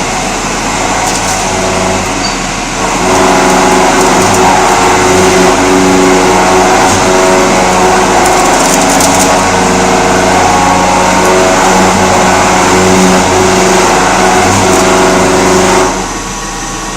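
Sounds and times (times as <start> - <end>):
milling machine cutting metal: 0.0 - 16.9.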